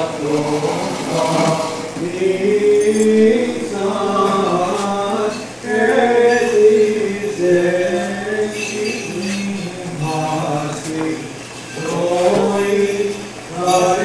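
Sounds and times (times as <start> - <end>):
voices chanting a hymn: 0.0 - 14.0.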